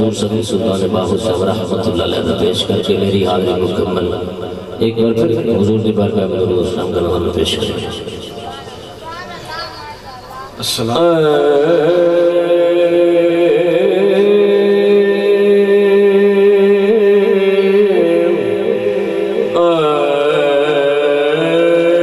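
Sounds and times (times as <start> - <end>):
man chanting through microphone: 0.0 - 9.0, 10.5 - 22.0.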